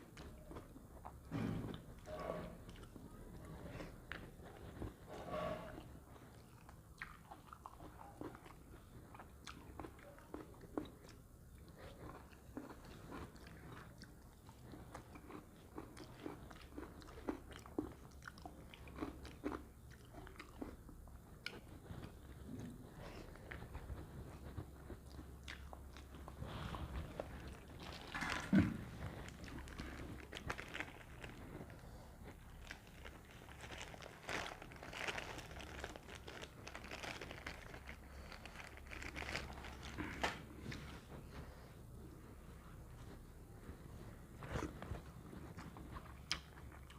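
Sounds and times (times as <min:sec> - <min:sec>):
low steady hum: 0:00.0 - 0:46.9
person chewing with crunches: 0:00.0 - 0:46.9.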